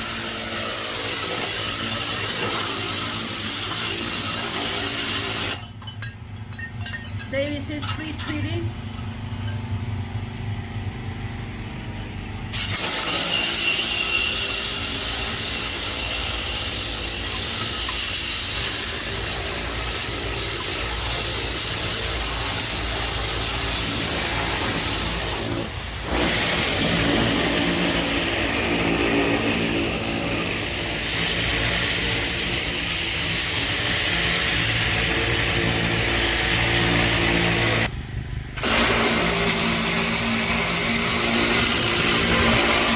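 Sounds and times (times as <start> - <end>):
high-pressure spray hissing: 0.0 - 5.6, 12.5 - 37.9, 38.6 - 42.9
pressure washer engine running: 0.0 - 42.9.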